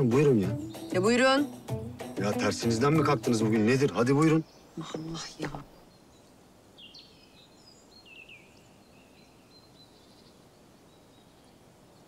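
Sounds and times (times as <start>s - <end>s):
faint birds chirping: 0.0s - 12.0s
low steady outdoor hiss: 0.0s - 12.0s.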